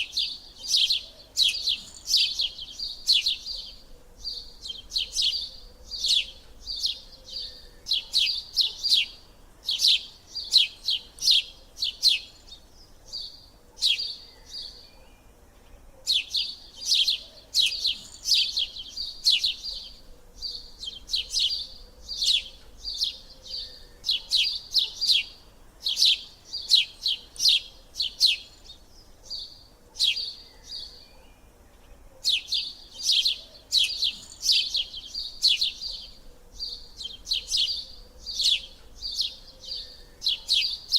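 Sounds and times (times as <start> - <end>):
small bird chirping: 0.0 - 40.9.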